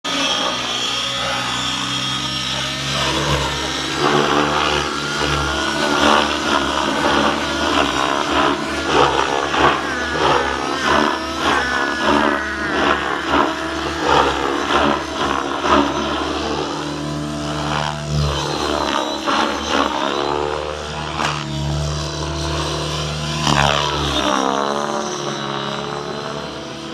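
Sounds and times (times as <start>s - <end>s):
helicopter motor and rotor whine: 0.0s - 26.9s
rotor blades chopping: 0.1s - 26.6s.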